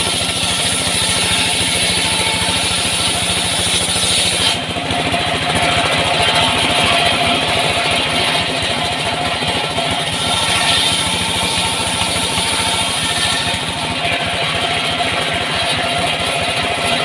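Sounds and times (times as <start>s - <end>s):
saw engine running: 0.0s - 17.0s.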